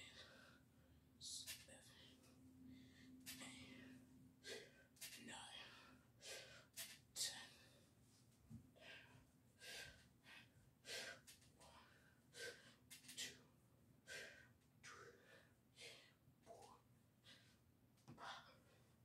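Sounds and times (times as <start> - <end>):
person breathing heavily: 0.0 - 0.9, 1.8 - 7.9, 8.7 - 19.0.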